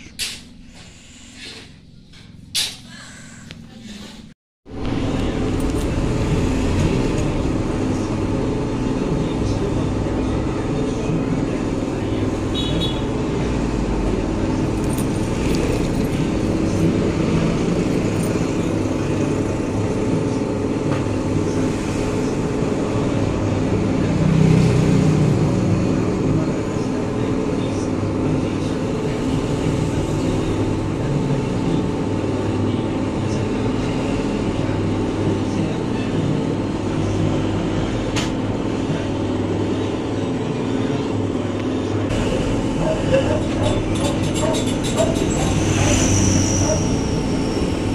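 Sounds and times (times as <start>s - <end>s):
drive whining: 4.7s - 47.9s
metal lathe humming: 4.7s - 47.9s.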